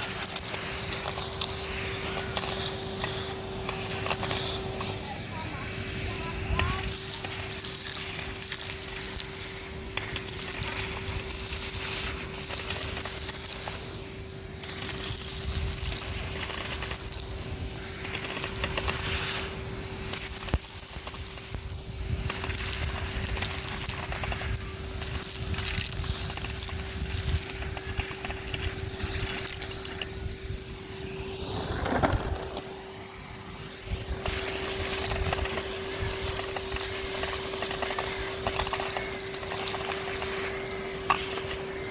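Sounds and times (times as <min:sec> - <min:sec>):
vacuum cleaner motor whine: 0:00.0 - 0:41.9
debris rattling through hose: 0:06.1 - 0:32.9, 0:33.9 - 0:41.9.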